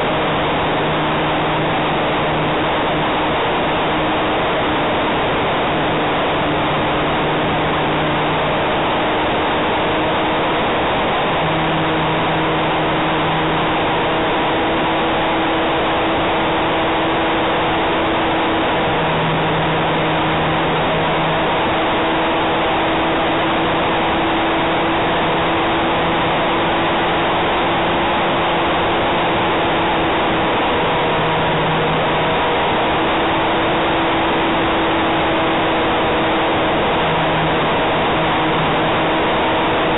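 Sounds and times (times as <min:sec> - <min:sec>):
propeller air rush: 0:00.0 - 0:39.9.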